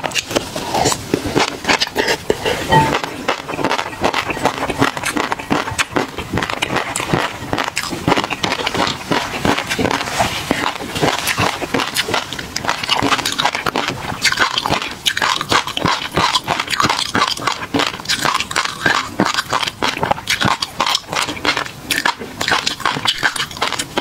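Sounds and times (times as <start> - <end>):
wet chewing and lip smacking: 0.0 - 24.0.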